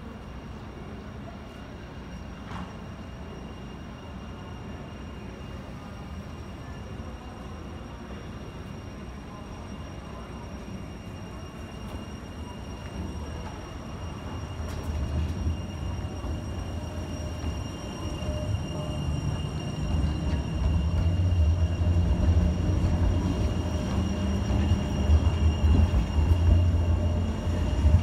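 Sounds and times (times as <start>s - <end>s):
tram rolling past rumbling: 2.0s - 28.0s.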